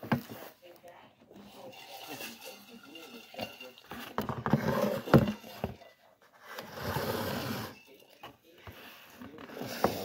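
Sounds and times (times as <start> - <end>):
rustling and scraping: 0.0 - 10.0.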